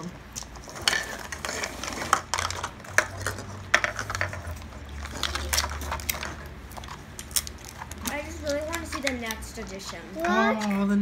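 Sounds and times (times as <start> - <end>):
paper wrappers rustling: 0.5 - 10.8.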